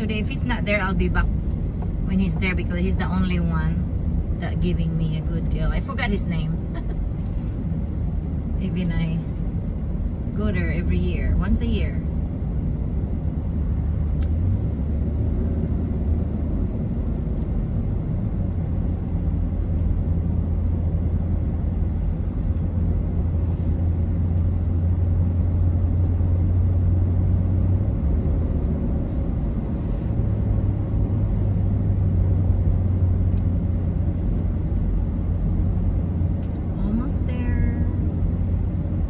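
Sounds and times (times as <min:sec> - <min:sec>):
car road rumble inside cabin: 0:00.0 - 0:39.0.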